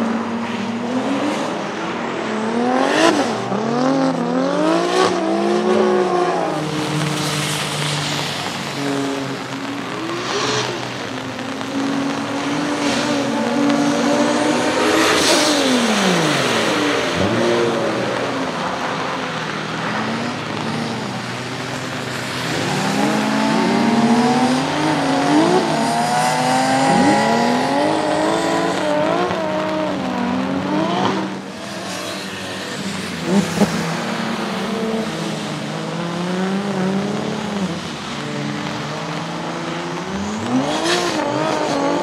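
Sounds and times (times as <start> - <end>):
car engine revving hard: 0.0 - 42.0
tyres hissing on wet tarmac: 6.0 - 42.0.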